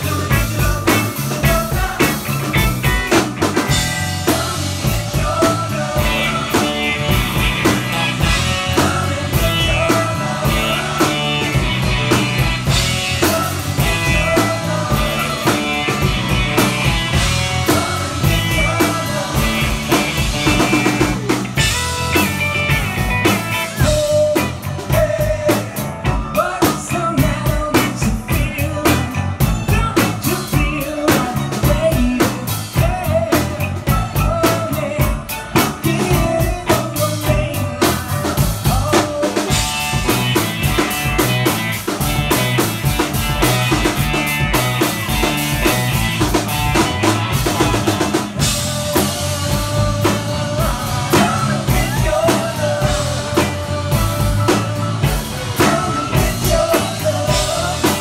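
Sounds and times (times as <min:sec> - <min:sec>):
bass guitar: 0:00.0 - 0:58.0
drum kit beat: 0:00.0 - 0:58.0
lead vocals: 0:00.0 - 0:58.0.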